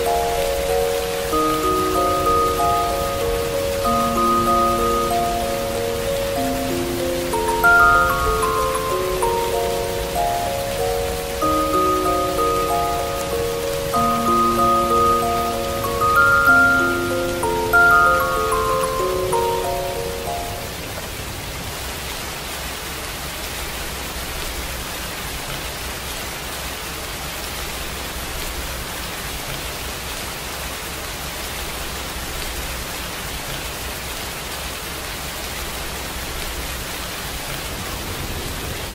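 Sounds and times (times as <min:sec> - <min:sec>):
steady rain-like noise: 0:00.0 - 0:38.9.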